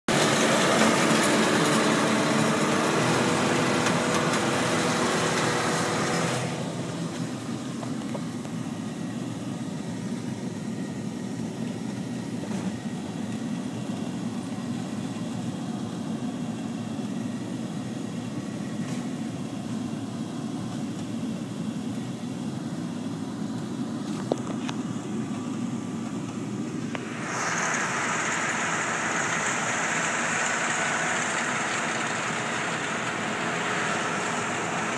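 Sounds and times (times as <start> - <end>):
hay windrower engine droning: 0.1 - 34.9.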